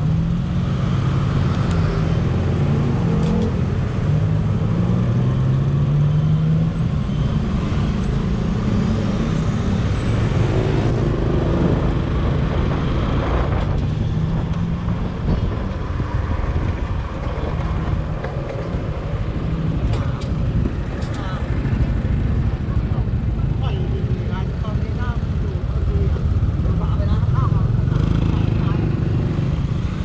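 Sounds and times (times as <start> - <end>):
traffic noise: 0.0 - 30.0.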